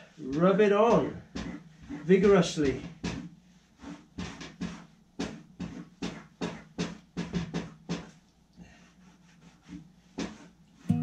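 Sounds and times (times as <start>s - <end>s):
wax rubbing on fabric: 0.3s - 10.9s.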